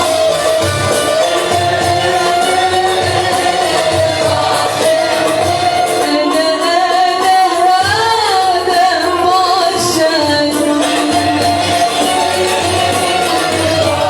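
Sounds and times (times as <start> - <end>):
instrumental accompaniment with low beat: 0.0 - 14.0
woman singing: 0.0 - 14.0.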